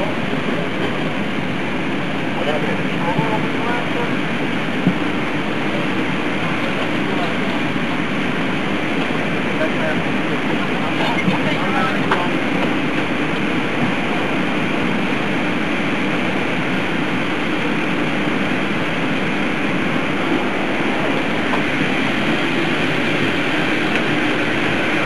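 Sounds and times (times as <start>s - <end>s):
loud mechanical noise with hum: 0.0s - 25.0s.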